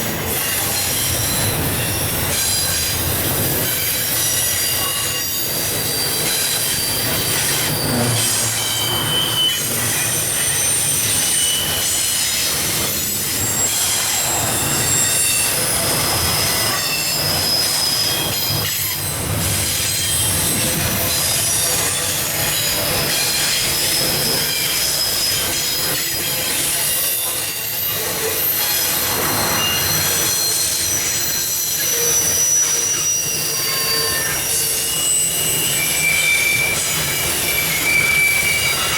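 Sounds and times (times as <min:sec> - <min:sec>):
train rolling rumble: 0:00.0 - 0:38.9
train wheels squealing: 0:00.0 - 0:38.9.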